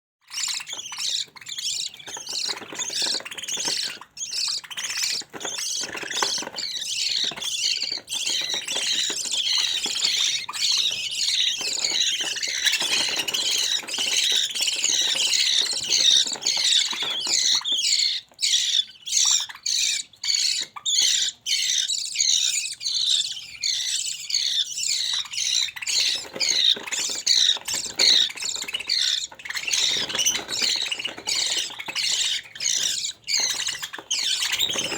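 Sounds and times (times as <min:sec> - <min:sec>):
budgerigar chicks squawking: 0:00.2 - 0:34.9.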